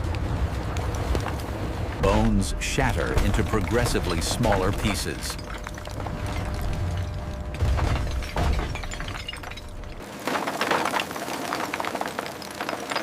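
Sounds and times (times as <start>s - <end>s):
crusher machine rumble: 0.0s - 13.0s
bone fragments crackling: 1.1s - 13.0s.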